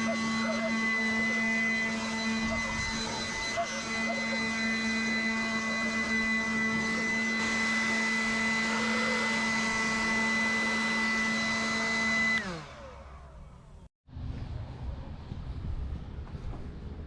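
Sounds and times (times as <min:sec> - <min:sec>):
electric motor whining: 0:00.0 - 0:13.8.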